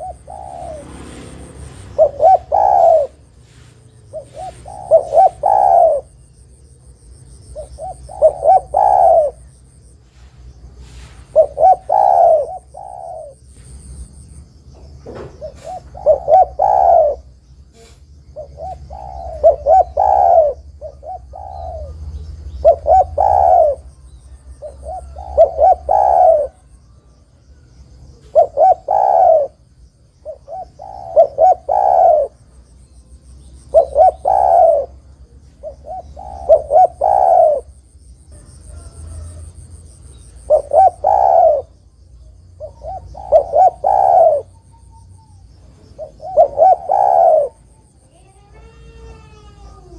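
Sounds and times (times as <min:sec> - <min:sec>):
dove cooing: 0:00.0 - 0:06.2, 0:07.4 - 0:09.6, 0:10.7 - 0:14.0, 0:14.8 - 0:27.3, 0:28.0 - 0:32.4, 0:33.7 - 0:41.9, 0:42.6 - 0:49.9.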